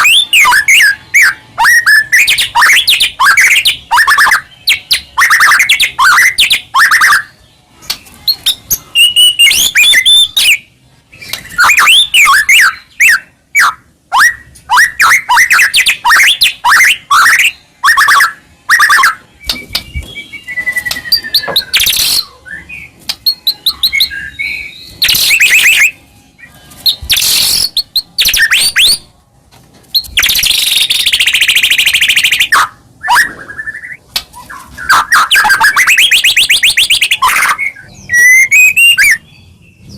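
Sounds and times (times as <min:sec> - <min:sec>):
songbird singing: 0:00.0 - 0:29.1, 0:29.9 - 0:39.9.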